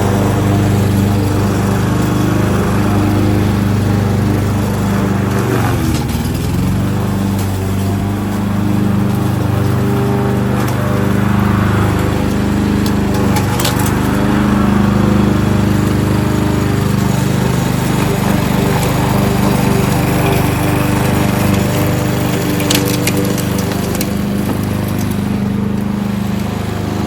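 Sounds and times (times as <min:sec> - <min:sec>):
lawnmower engine running: 0:00.0 - 0:27.0.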